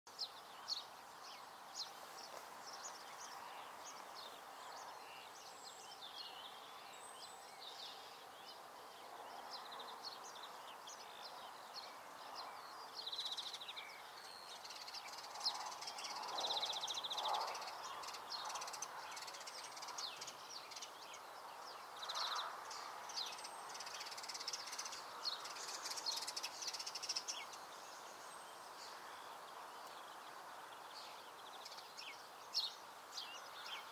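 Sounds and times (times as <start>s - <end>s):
songbirds chirping and trilling: 0.1s - 33.9s
steady background hiss: 0.1s - 33.9s.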